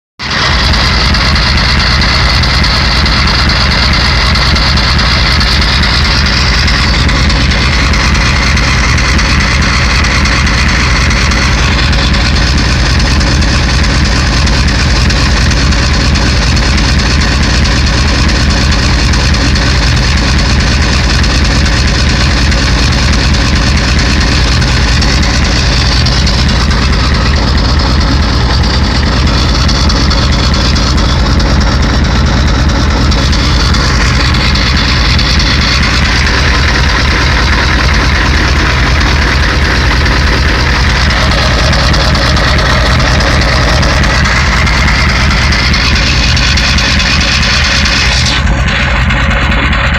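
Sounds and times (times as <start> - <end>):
diesel engine idling: 0.2 - 49.9.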